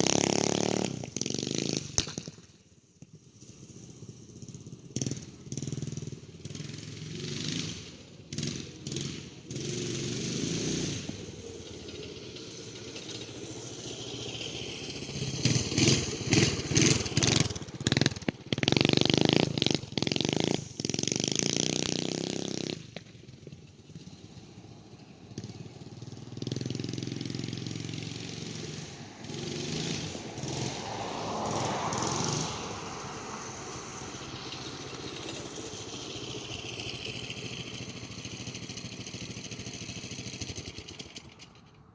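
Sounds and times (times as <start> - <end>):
minibike engine revving: 0.0 - 41.9.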